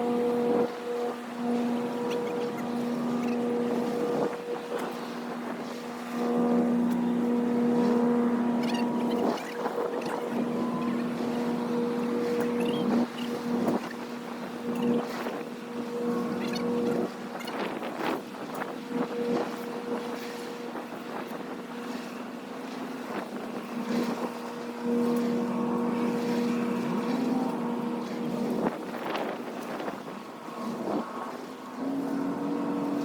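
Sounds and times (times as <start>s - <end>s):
boat engine humming: 0.0s - 33.0s
wind on microphone: 0.0s - 33.0s.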